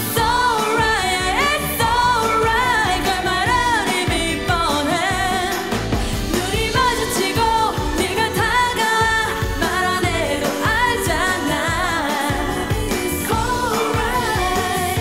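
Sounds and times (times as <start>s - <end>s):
person singing: 0.0s - 15.0s
pop backing track with beat: 0.0s - 15.0s.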